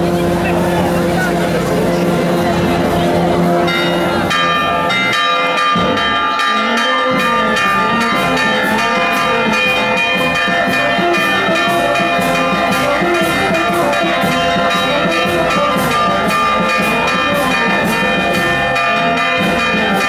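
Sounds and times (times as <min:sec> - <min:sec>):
church bells pealing fast: 0:00.0 - 0:20.0.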